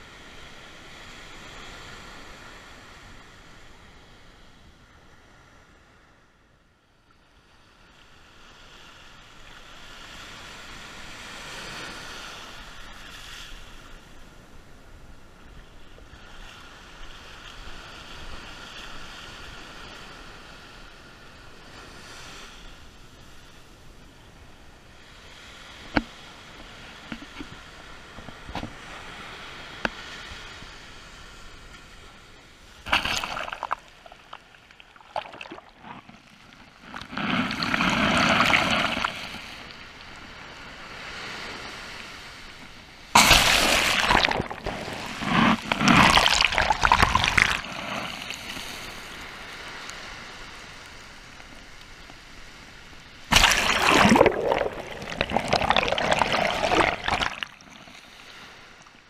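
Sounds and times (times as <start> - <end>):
quiet rushing water: 0.0 - 59.0
waves sloshing over microphone: 7.6 - 59.0.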